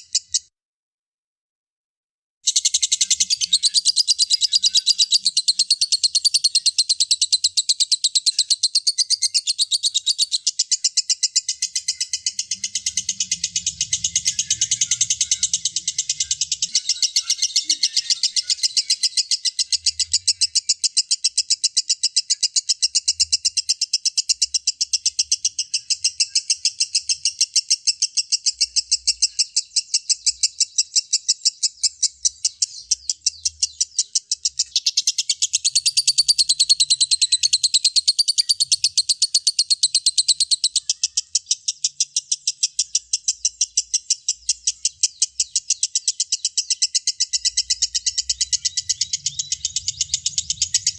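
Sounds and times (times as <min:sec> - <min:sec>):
lovebird chattering: 0:02.5 - 0:50.9.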